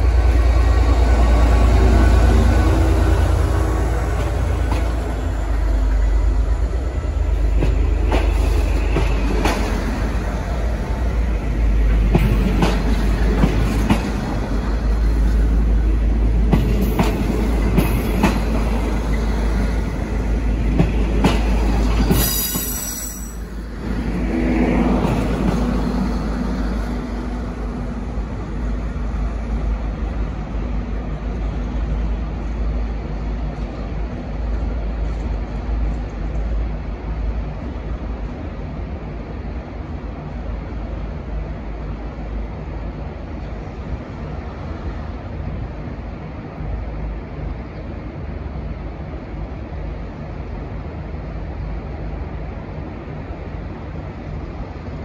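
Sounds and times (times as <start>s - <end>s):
train rolling with low rumble: 0.0s - 55.0s.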